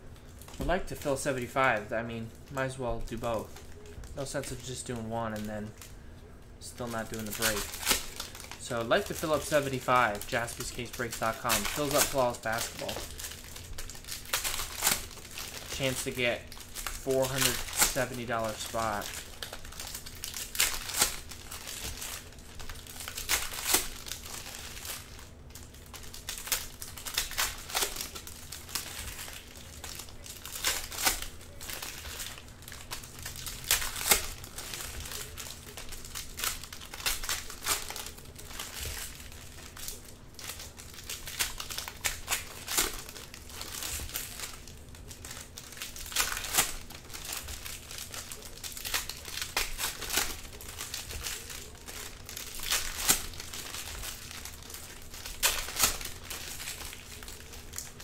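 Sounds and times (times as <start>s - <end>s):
foil wrappers crinkling: 0.0s - 58.0s
packs tearing open: 6.8s - 58.0s.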